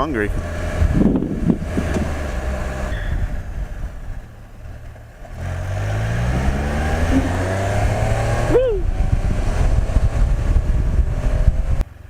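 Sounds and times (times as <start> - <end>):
three-cylinder engine running: 0.0 - 12.0.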